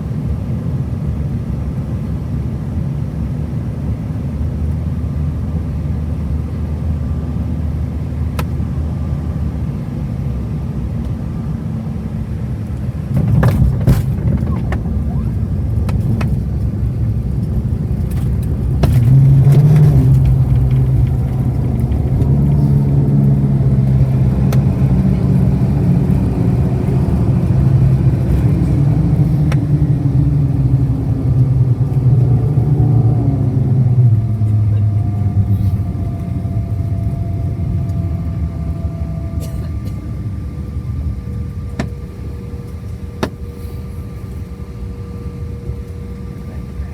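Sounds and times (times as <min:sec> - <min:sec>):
engine running with low hum: 0:00.0 - 0:46.9.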